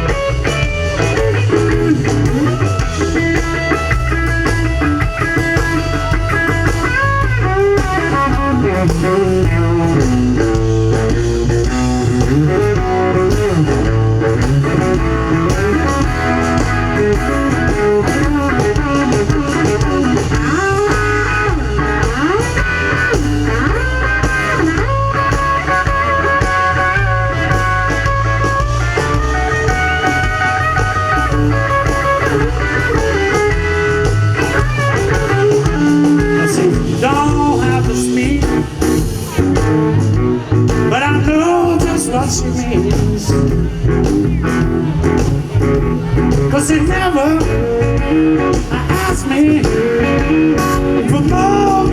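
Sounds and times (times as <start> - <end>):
blues band playing: 0.0 - 51.9
electric guitar lead: 0.0 - 51.9.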